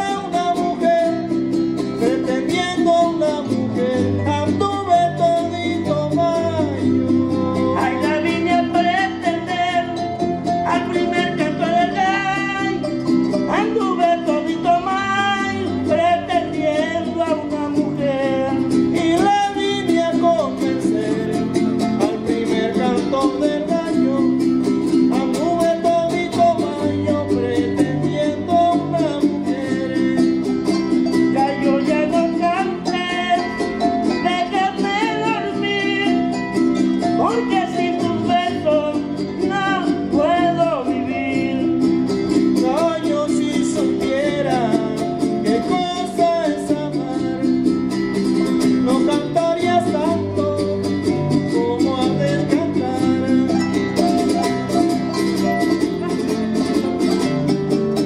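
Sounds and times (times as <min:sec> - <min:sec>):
man singing: 0:00.0 - 0:58.0
strummed guitar: 0:00.0 - 0:58.0.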